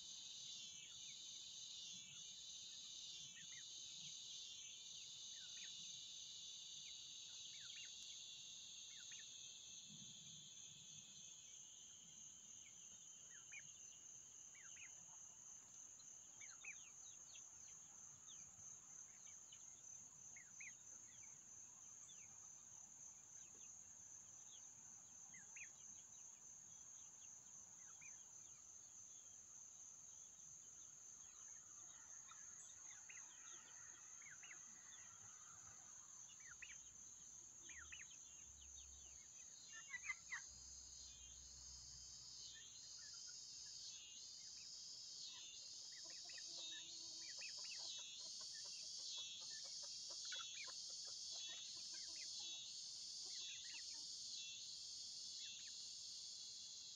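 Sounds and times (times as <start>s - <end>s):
low insect buzz: 0.0s - 56.9s.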